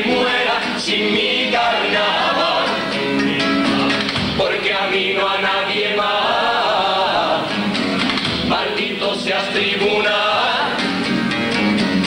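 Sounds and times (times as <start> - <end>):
male chorus singing in harmony: 0.0 - 7.7, 8.4 - 10.9
guitars: 0.0 - 12.0.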